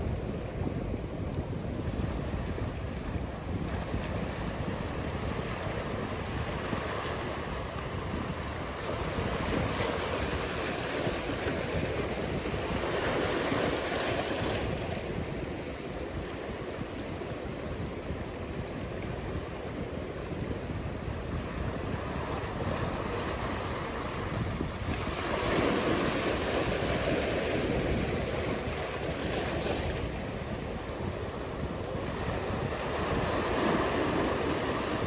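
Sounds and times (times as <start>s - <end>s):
ocean surf breaking: 2.0s - 17.2s, 20.8s - 35.0s.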